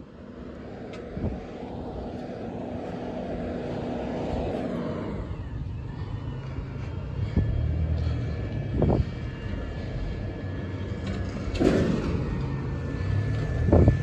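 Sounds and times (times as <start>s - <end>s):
distant diesel engine running: 1.6s - 14.0s.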